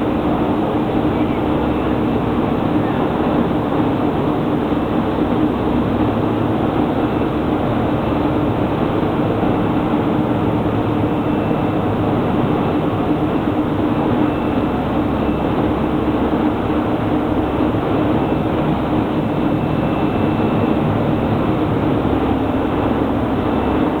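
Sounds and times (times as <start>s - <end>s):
industrial machinery hum: 0.0s - 24.0s.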